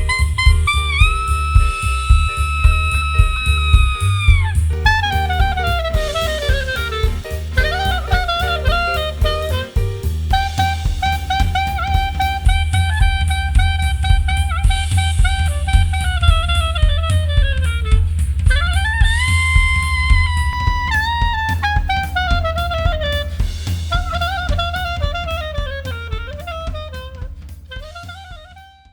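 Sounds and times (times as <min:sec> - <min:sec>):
electro-swing instrumental music: 0:00.0 - 0:28.9.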